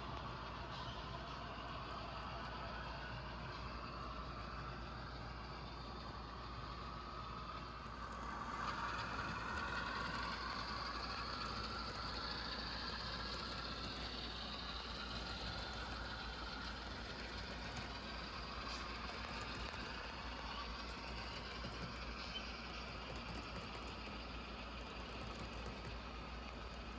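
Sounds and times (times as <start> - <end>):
model train humming and rumbling: 0.0 - 26.9.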